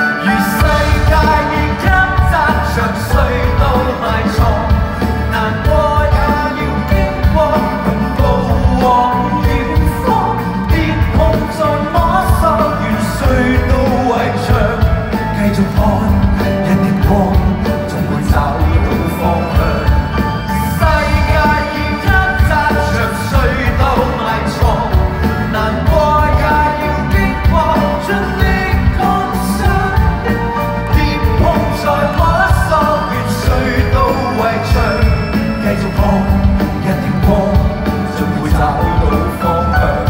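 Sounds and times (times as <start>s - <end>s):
live pop rock band: 0.0s - 40.0s
man singing lead vocal: 0.0s - 40.0s.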